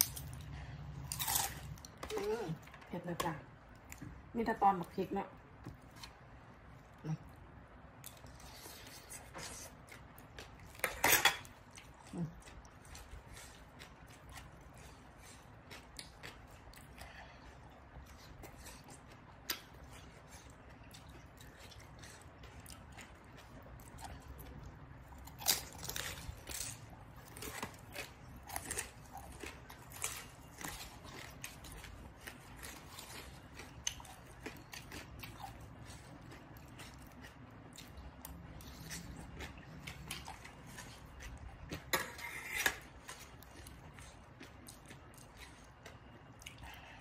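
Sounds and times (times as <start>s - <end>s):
chewing and crunching: 0.0s - 3.0s, 8.0s - 47.0s.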